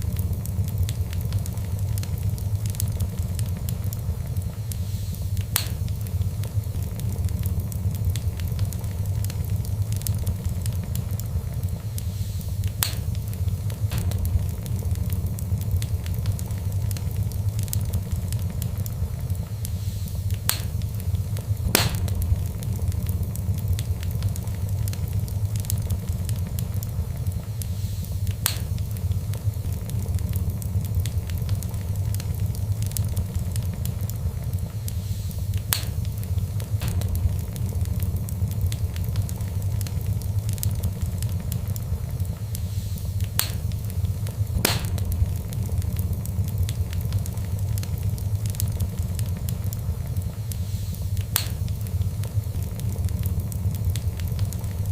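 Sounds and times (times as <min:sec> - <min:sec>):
low rumble of flame: 0:00.0 - 0:54.9
sharp fire pops: 0:00.0 - 0:54.9
wood fire crackling: 0:00.0 - 0:54.9.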